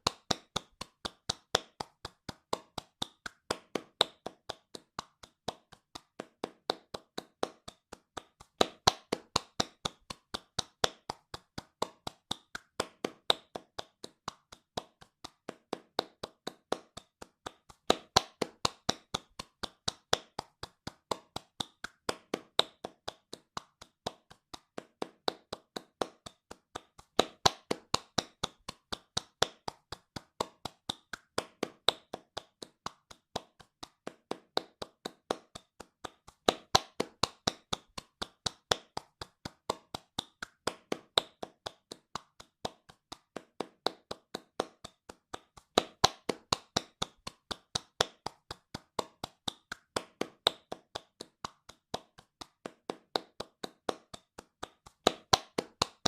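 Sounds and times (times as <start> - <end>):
hands clapping fast: 0.0 - 56.0.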